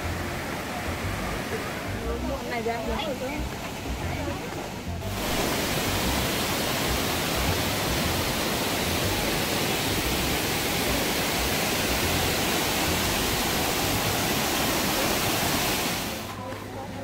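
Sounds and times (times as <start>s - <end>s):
waterfall roaring: 0.0s - 16.4s.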